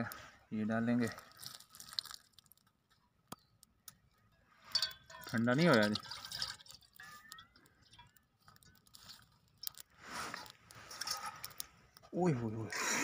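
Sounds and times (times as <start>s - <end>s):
twig fire crackling: 0.0s - 13.0s.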